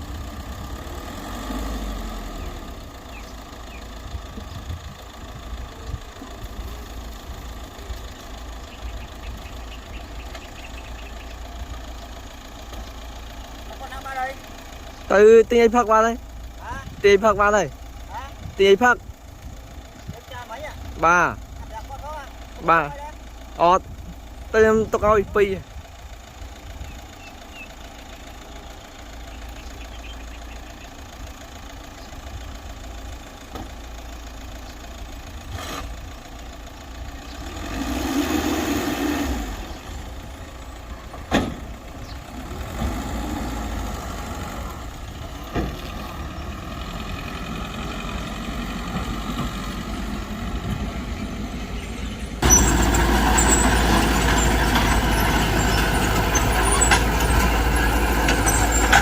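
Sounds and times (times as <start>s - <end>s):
diesel engines working: 0.0s - 59.0s.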